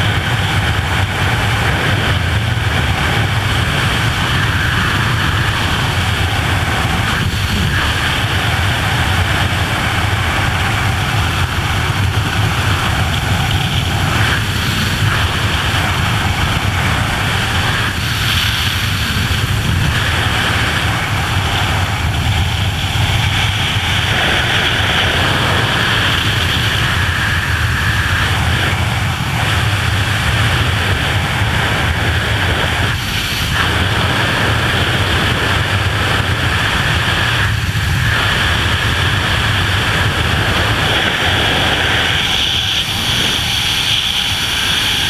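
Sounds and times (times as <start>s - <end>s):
rush of freefall wind: 0.0s - 45.0s.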